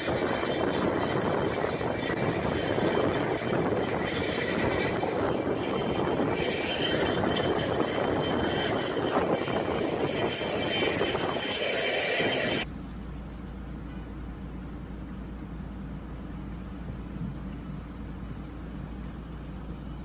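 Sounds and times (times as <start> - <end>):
steady engine roar: 0.0 - 20.0.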